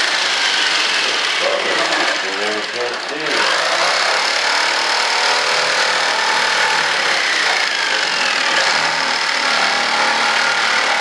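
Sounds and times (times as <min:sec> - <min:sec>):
jigsaw cutting through a sheet: 0:00.0 - 0:11.0.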